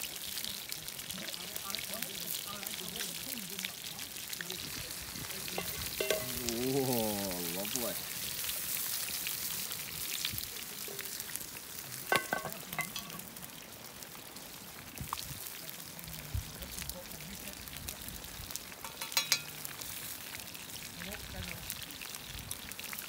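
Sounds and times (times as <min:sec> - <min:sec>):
campfire crackling and hissing: 0:00.0 - 0:23.0
rain falling: 0:00.0 - 0:23.0.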